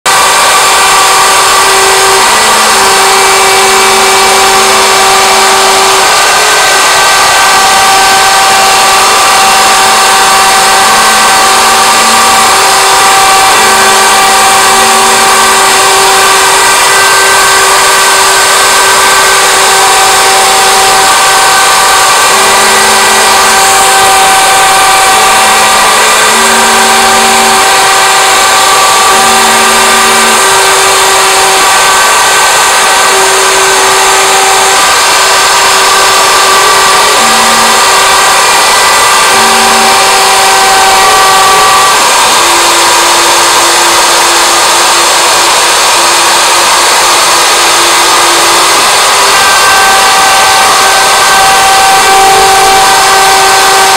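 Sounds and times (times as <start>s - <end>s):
router cutting wood: 0.0s - 53.9s
lower machine tone: 0.1s - 53.9s.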